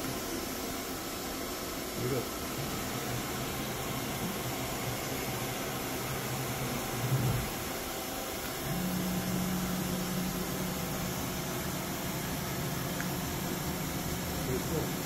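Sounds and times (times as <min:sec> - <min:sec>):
machinery hum with hiss: 0:00.0 - 0:15.0.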